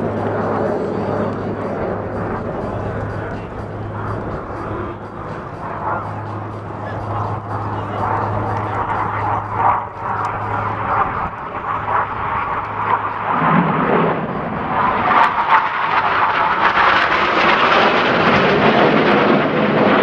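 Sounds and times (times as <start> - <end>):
jet rushing overhead: 0.0 - 20.0.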